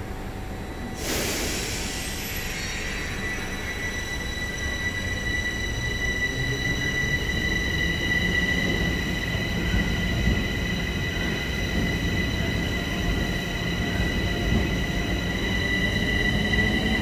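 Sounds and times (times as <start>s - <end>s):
rumble of wheels on rail: 0.0s - 17.0s
high-pitched train wheel squeal: 0.6s - 17.0s.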